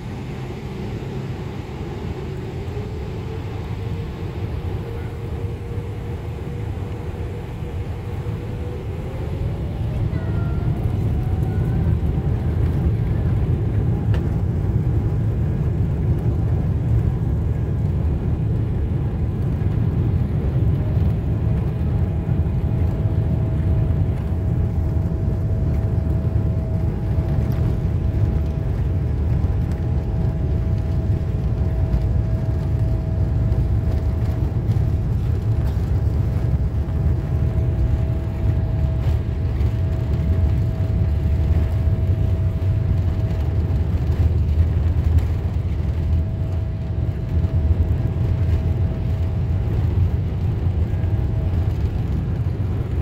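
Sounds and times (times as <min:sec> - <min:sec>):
deep engine rumble in cabin: 0:00.0 - 0:53.0
jet engine whine: 0:00.0 - 0:53.0.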